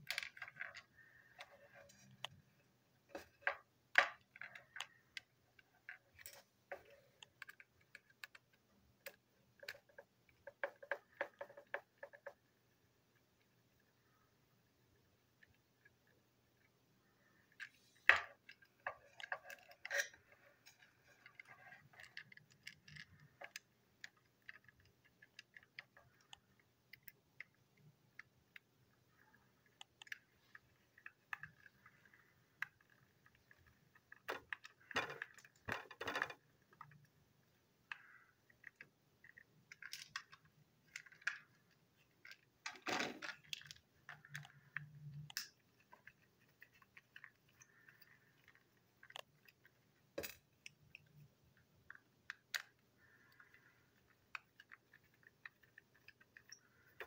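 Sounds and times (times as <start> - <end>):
plastic parts clicking and rattling: 0.0 - 12.5, 15.3 - 57.0.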